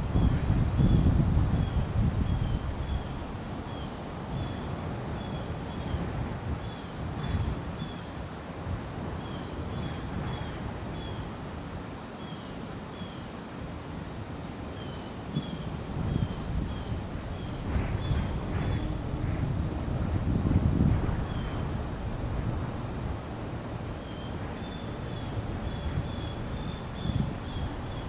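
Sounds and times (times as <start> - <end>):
wind blowing against microphone: 0.0 - 12.1, 13.9 - 28.0
outdoor hiss: 0.0 - 28.0.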